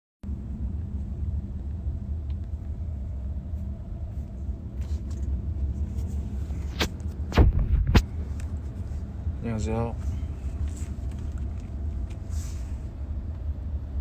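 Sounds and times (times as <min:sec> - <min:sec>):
road rumble inside moving car: 0:00.2 - 0:14.0.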